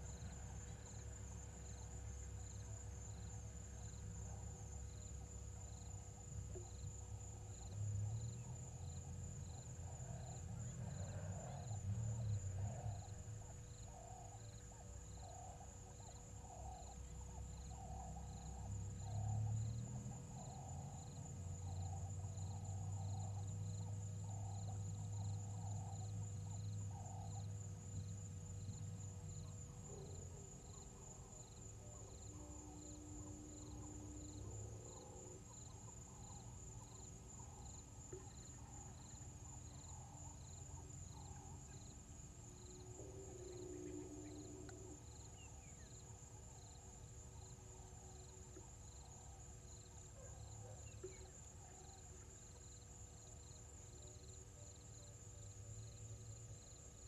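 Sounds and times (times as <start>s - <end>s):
insect chirps: 0.0s - 57.0s
insects trilling: 0.0s - 57.0s
lower insect call: 0.0s - 57.0s.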